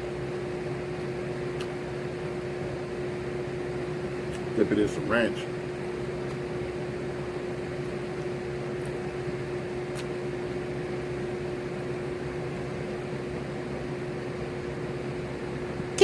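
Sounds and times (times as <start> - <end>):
electric fans whirring: 0.0 - 16.0.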